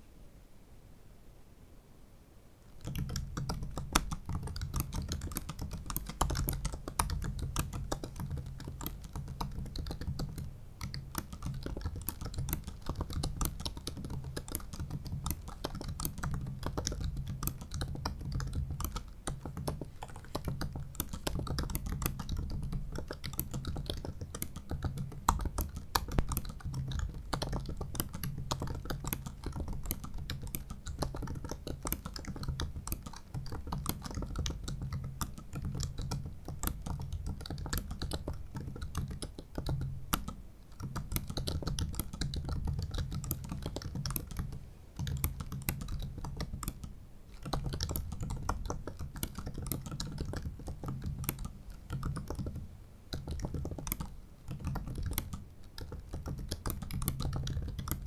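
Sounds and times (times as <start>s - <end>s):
laptop keyboard typing: 2.7s - 58.0s.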